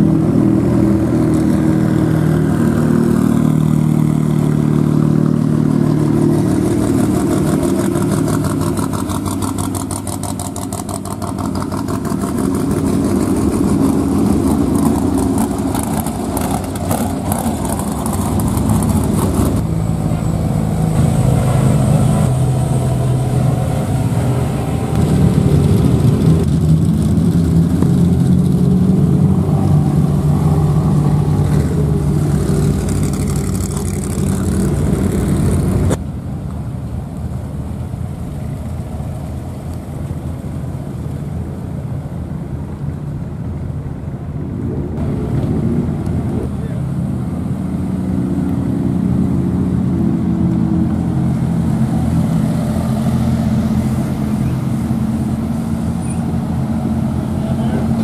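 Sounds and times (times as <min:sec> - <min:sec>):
off-road trucks driving slowly past: 0:00.0 - 0:58.0.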